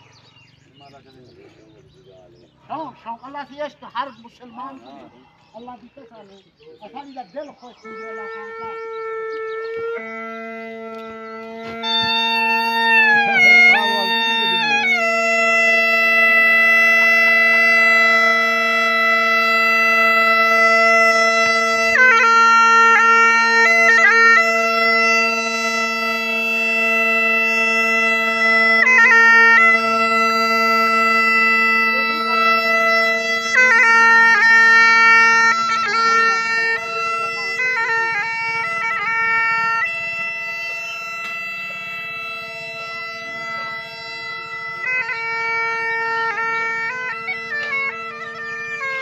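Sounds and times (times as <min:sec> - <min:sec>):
bagpipe drones: 0:07.4 - 0:49.0
bagpipe chanter melody: 0:07.6 - 0:49.0.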